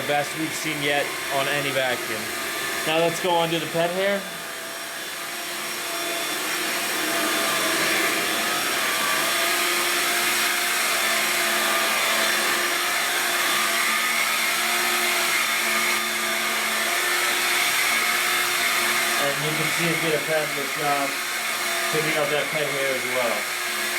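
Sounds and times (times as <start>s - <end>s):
vacuum cleaner on carpet: 0.0s - 23.9s.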